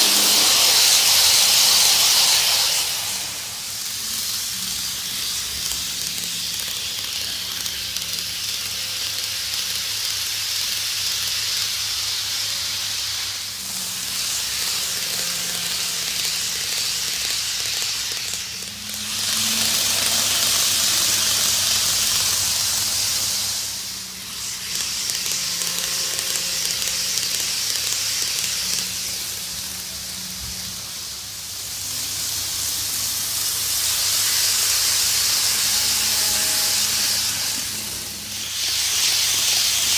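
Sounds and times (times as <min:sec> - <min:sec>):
model train whirring on track: 0:00.0 - 0:39.9.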